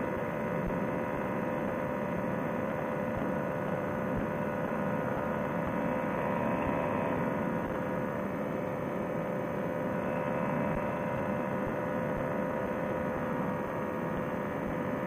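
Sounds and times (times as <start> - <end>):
muffled paramotor engine drone: 0.0 - 15.0.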